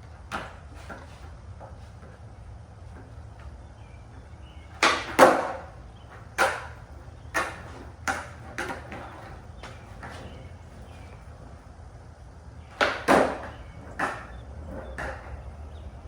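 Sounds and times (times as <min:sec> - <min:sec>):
skateboard clacking on concrete: 0:00.0 - 0:11.8, 0:12.5 - 0:16.0.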